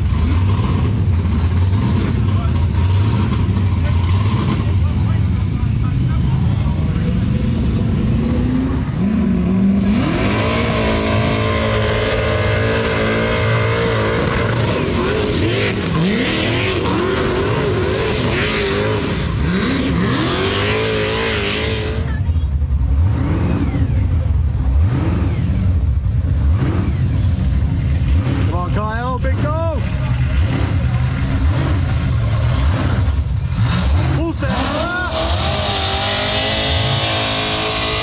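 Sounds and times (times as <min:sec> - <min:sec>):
car engine revving hard: 0:00.0 - 0:38.0.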